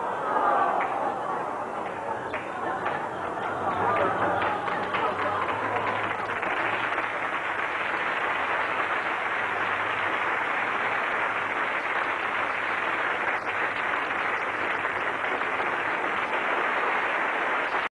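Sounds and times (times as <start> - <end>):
muffled audience applause: 0.0 - 17.9.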